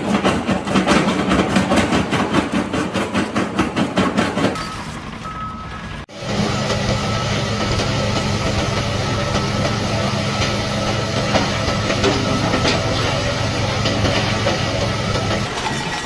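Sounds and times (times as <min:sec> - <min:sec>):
heavy machine engine running: 0:00.0 - 0:16.0.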